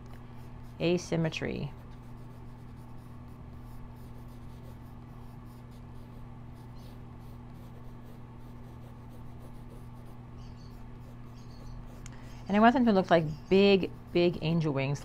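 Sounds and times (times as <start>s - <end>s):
low electrical hum: 0.0s - 15.0s
pencil scratching on paper: 0.4s - 14.7s.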